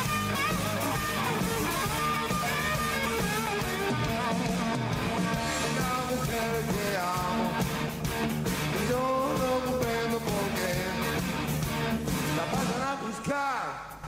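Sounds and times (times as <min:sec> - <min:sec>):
guitar melody: 0:00.0 - 0:12.7
rock band playing: 0:00.0 - 0:14.0.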